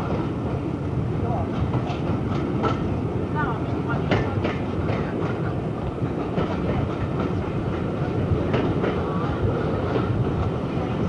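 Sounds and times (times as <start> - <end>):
train rumbling: 0.0 - 11.0
wheels clicking over rail joints: 1.2 - 11.0.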